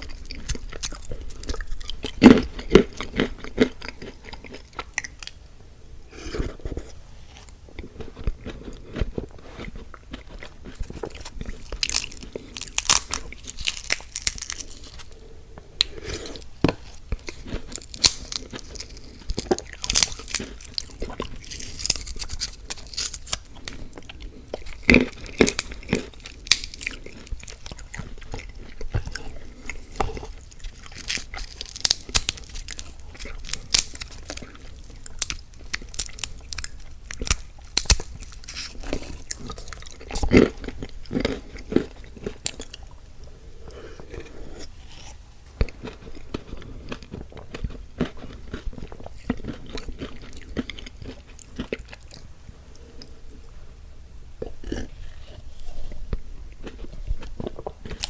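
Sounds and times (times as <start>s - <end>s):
person chewing crunchy food: 0.0s - 5.5s, 6.1s - 53.6s, 54.4s - 58.0s.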